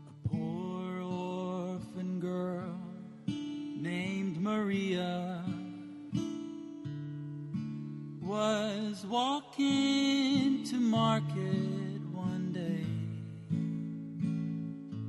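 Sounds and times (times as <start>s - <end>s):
acoustic guitar ballad: 0.0s - 15.0s.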